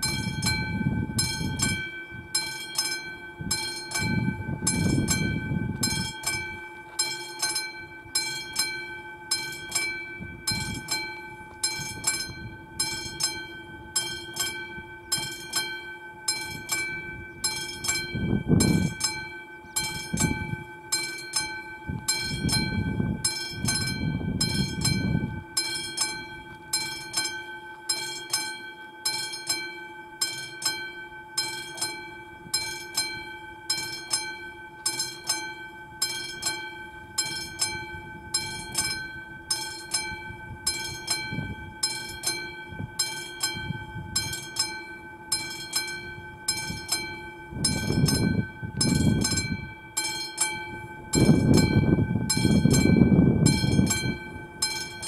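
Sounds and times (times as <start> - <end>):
level crossing bell ringing: 0.0 - 55.0.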